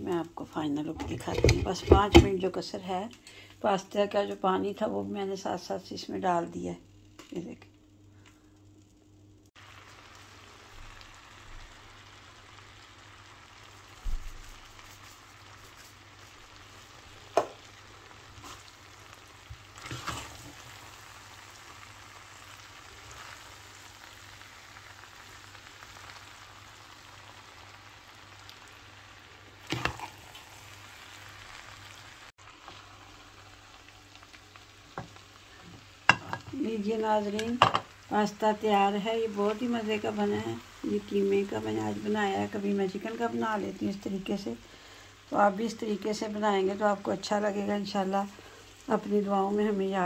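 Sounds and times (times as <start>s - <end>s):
food sizzling in frying pan: 3.8s - 50.0s.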